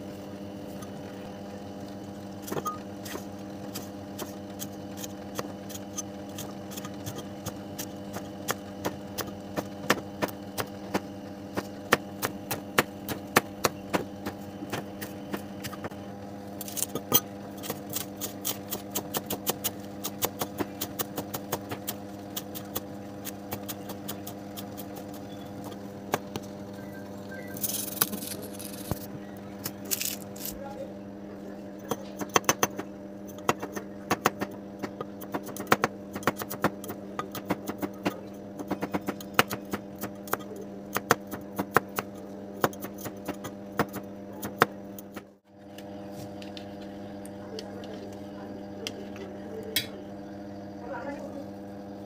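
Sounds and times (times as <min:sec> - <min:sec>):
steady hum: 0:00.0 - 0:52.0.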